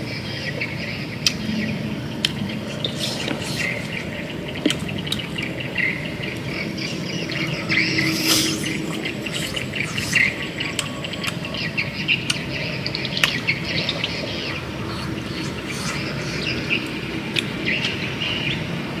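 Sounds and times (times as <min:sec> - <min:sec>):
outdoor background hum: 0:00.0 - 0:19.0
small birds chirping: 0:00.0 - 0:19.0.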